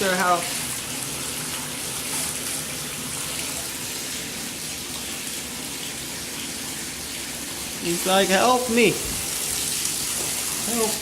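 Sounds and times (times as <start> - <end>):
water splashing into bathtub: 0.0 - 11.0.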